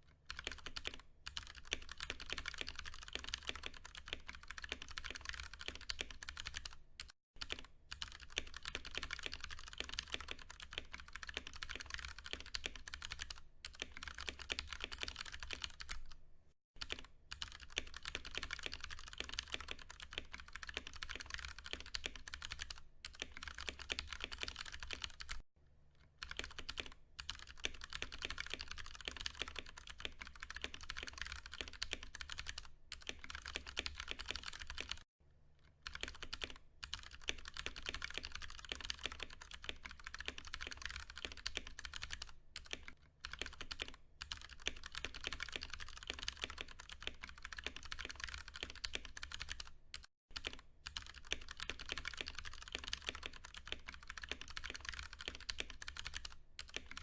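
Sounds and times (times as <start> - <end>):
fast typing on mechanical keyboard: 0.3 - 16.2, 16.8 - 25.4, 26.2 - 35.1, 35.8 - 57.0.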